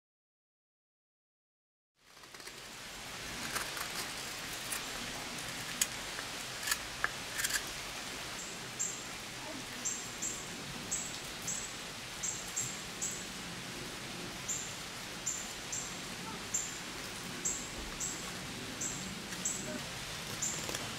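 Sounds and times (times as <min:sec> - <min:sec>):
steady outdoor hiss: 0:02.0 - 0:20.9.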